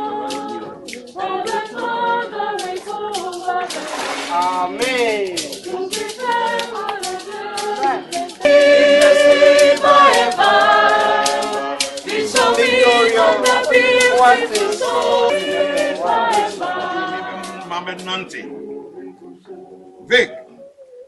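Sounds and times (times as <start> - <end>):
sharp percussive beat: 0.0 - 18.6
group singing unaccompanied: 0.0 - 20.6.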